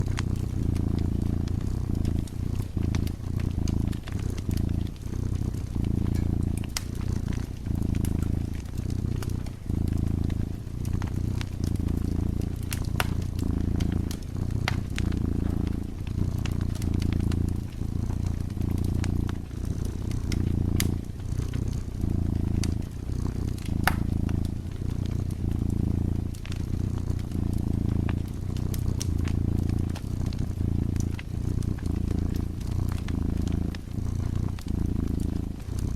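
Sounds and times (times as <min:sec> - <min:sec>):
cat purring: 0:00.0 - 0:35.9
wood fire crackling and popping: 0:00.0 - 0:35.9.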